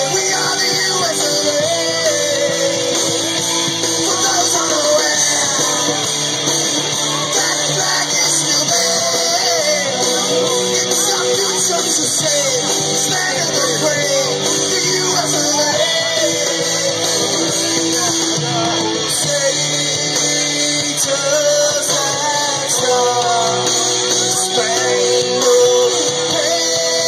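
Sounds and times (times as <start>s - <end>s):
rock song with singing: 0.0s - 27.0s.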